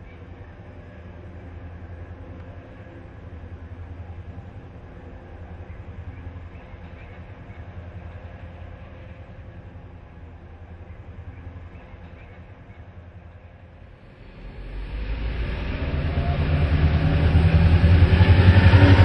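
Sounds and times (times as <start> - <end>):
locomotive engine drone: 0.0 - 19.0
train rumble: 0.0 - 19.0.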